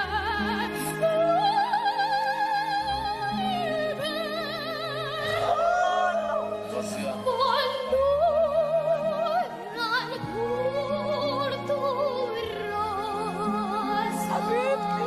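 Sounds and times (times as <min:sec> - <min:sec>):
orchestral accompaniment: 0:00.0 - 0:15.0.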